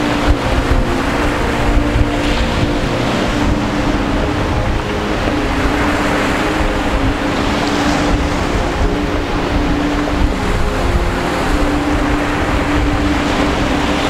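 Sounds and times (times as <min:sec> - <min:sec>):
boat engine droning: 0:00.0 - 0:14.0
sea water rushing: 0:00.0 - 0:14.0
wind: 0:00.0 - 0:14.0.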